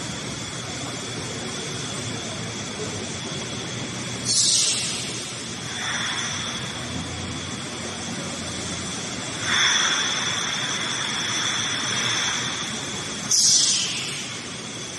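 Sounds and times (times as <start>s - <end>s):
loud rush of hissing: 0.0s - 14.9s
machinery hiss with high whine: 0.0s - 14.9s.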